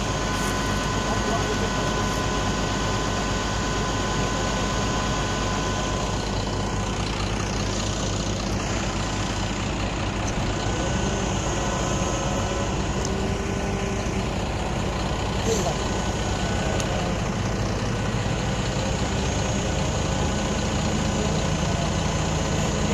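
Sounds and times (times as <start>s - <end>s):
diesel engines droning: 0.0s - 22.9s.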